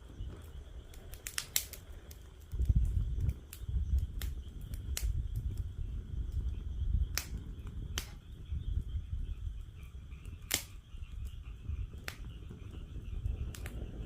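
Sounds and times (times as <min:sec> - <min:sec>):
frogs calling faintly: 0:00.0 - 0:14.0
wood fire crackling and popping: 0:00.0 - 0:14.0.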